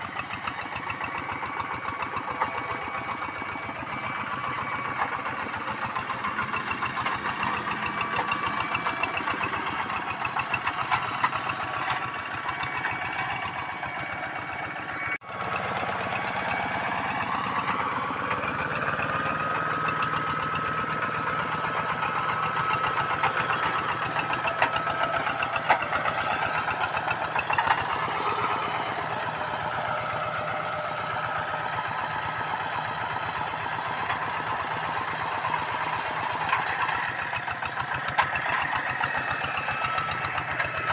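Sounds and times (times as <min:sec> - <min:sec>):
diesel hand tractor engine: 0:00.0 - 0:40.9.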